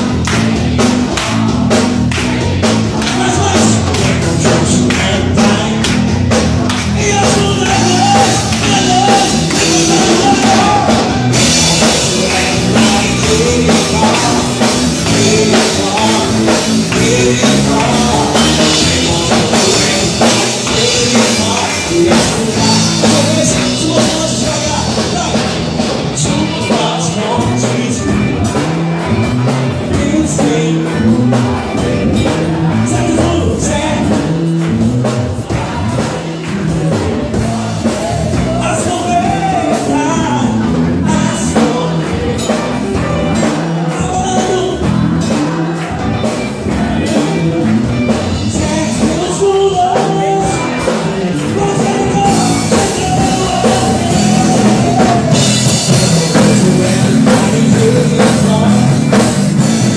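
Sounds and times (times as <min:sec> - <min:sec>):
bass guitar: 0:00.0 - 0:59.9
drum kit with cymbals: 0:00.0 - 0:59.9
electric guitar melody: 0:00.0 - 0:59.9.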